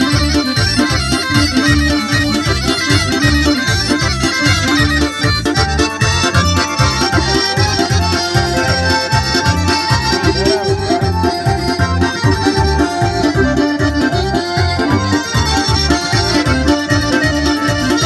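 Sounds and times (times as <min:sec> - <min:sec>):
electronic keyboard: 0:00.0 - 0:18.0
fast bass beat: 0:00.0 - 0:18.0
piano accordion: 0:00.0 - 0:18.0.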